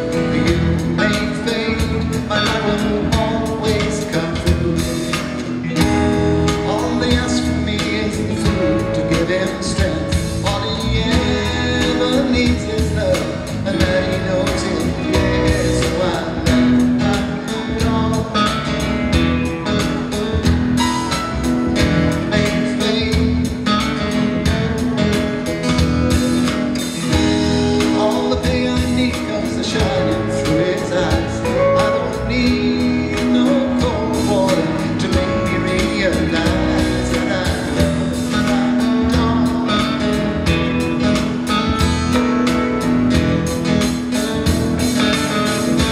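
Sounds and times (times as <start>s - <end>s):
acoustic guitar strumming: 0.0s - 45.9s
man singing: 0.0s - 45.9s.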